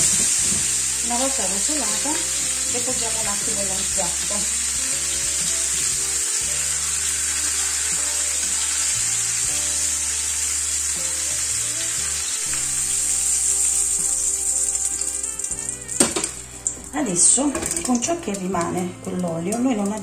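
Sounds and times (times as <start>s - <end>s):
meat frying in hot oil: 0.0s - 20.0s.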